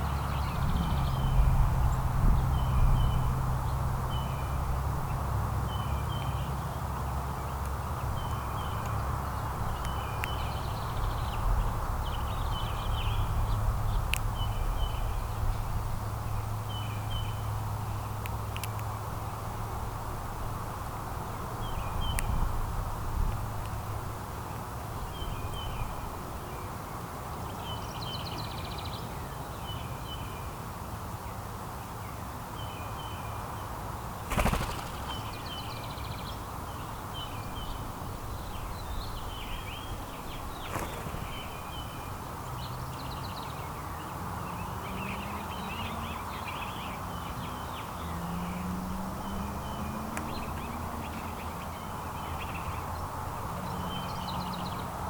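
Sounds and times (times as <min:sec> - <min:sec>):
outdoor background noise: 0:00.0 - 0:55.0
songbirds chirping: 0:00.0 - 0:55.0.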